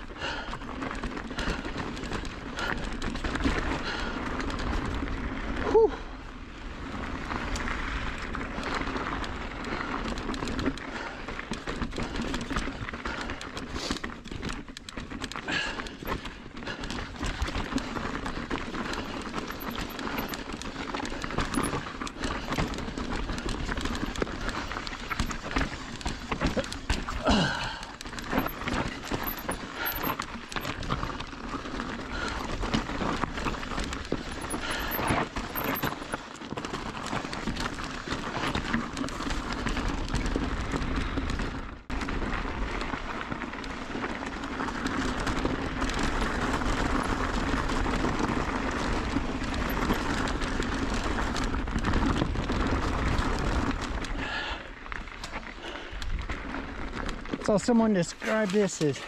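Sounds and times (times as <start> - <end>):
bike tyres crunching over stones: 0.0 - 59.0.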